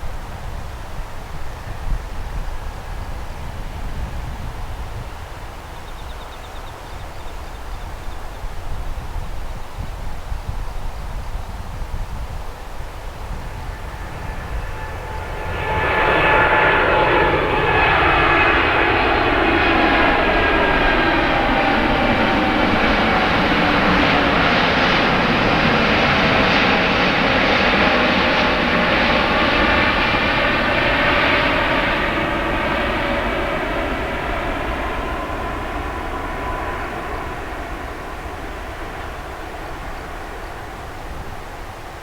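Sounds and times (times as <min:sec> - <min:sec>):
airliner engines passing: 0:00.0 - 0:42.0.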